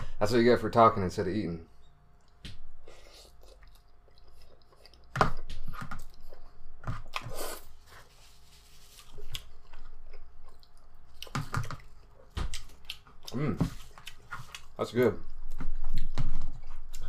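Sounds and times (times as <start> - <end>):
person chewing food: 2.1 - 17.0.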